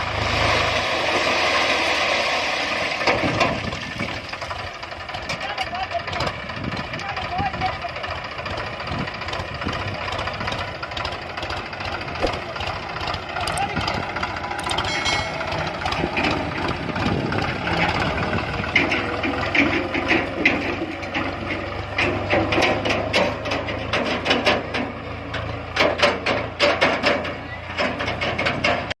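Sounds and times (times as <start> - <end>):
diesel engine running: 0.0 - 29.0
rapid clatter and knocks: 3.0 - 29.0.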